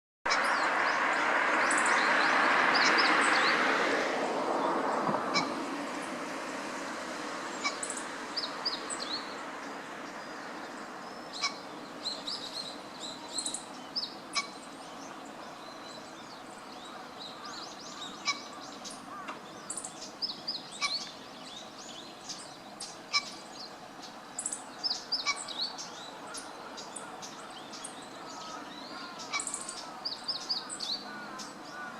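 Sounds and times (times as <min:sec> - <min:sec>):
birds chirping: 0:00.3 - 0:03.7, 0:04.6 - 0:06.6, 0:07.3 - 0:31.9.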